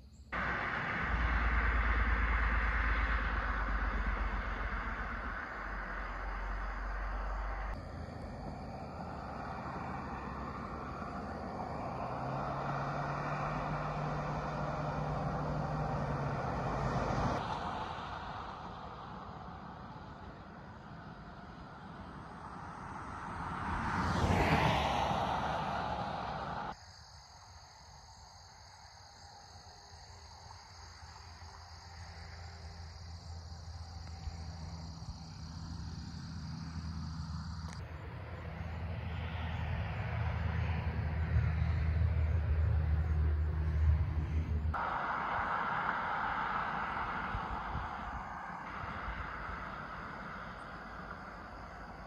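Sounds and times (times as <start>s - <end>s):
crickets trilling: 0.0s - 52.0s
low engine hum: 0.1s - 26.8s, 30.6s - 52.0s
vehicle rushing by: 0.4s - 26.8s, 34.4s - 52.0s.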